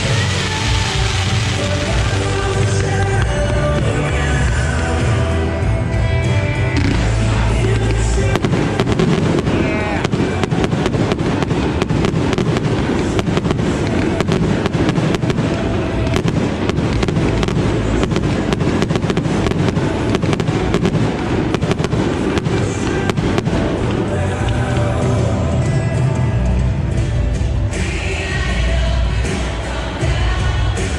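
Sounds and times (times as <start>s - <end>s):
fireworks bangs and crackles: 0.0s - 30.9s
music playing: 0.0s - 30.9s.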